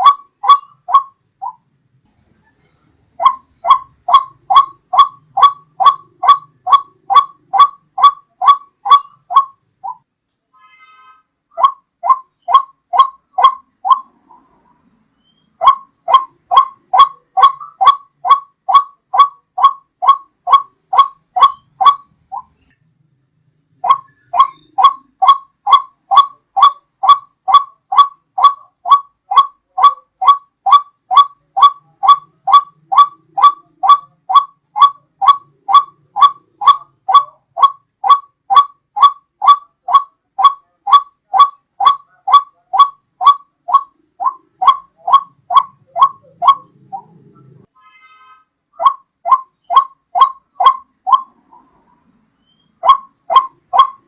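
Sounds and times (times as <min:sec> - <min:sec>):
repeated bird call note: 0:00.0 - 0:01.6, 0:02.4 - 0:22.8, 0:23.7 - 0:54.0.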